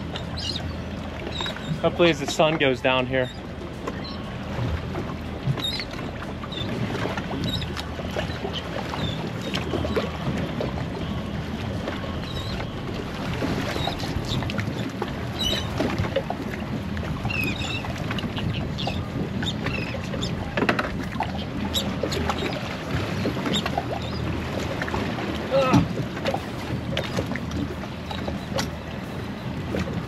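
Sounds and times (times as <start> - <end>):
water lapping against hull: 0.0 - 30.0.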